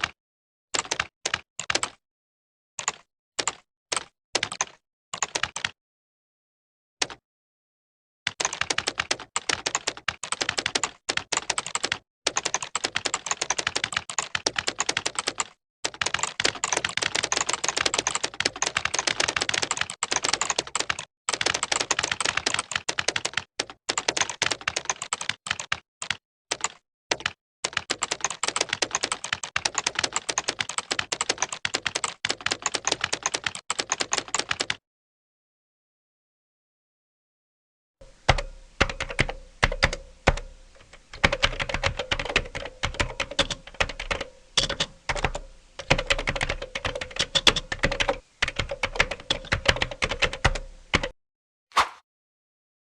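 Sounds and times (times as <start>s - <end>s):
fast keyboard typing: 0.8s - 2.0s, 2.8s - 5.8s, 8.3s - 34.8s, 38.0s - 51.2s.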